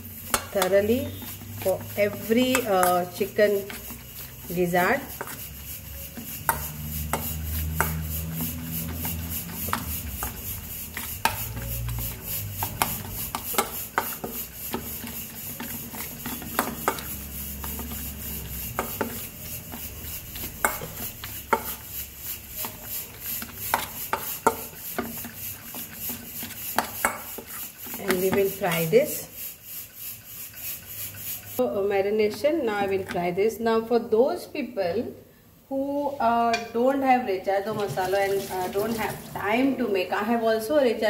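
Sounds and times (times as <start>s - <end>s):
spoon scraping steel bowl: 0.0s - 33.4s.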